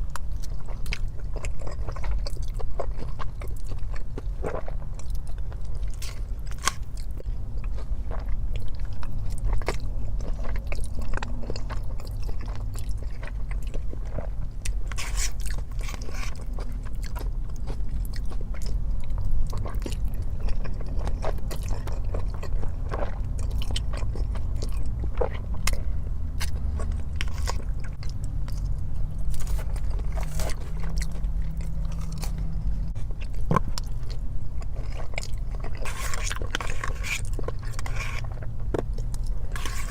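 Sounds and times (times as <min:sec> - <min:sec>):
crunches and clicks while chewing: 0:00.0 - 0:39.9
person chewing food: 0:00.0 - 0:39.9
steady low hum: 0:00.0 - 0:39.9.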